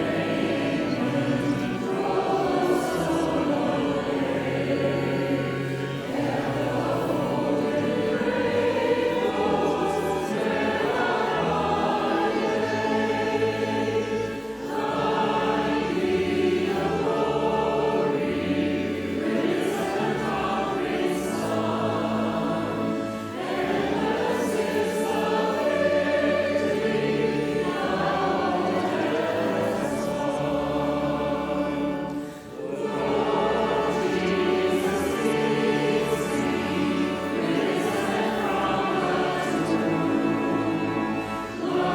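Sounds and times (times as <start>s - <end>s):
choir singing sacred music: 0.0s - 41.9s.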